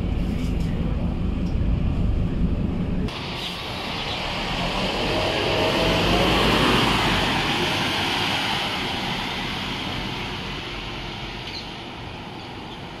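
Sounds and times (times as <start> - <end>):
bus driving away: 0.0 - 13.0.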